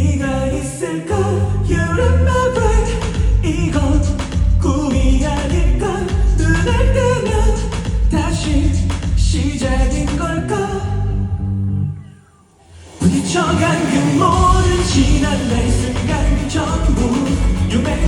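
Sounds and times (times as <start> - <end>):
pop song with singing: 0.0 - 11.5, 12.8 - 18.0.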